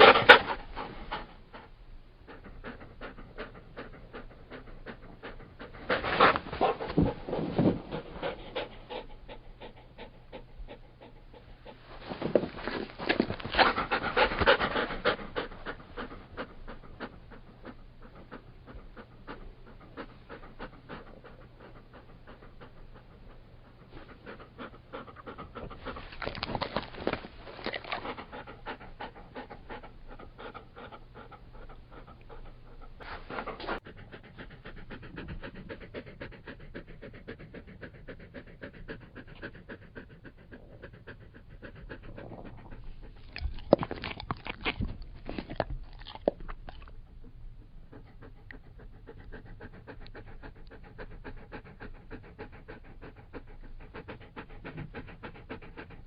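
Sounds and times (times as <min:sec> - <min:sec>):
dog panting: 0:00.0 - 0:56.0.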